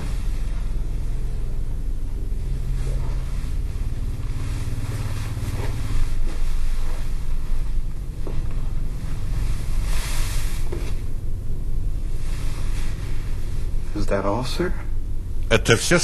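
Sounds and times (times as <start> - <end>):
dark ambient drone music: 0.0 - 16.0.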